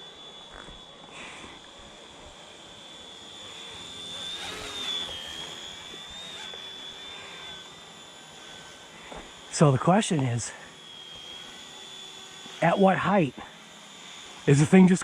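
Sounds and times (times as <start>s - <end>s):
rc helicopter motor whine: 0.0s - 15.0s.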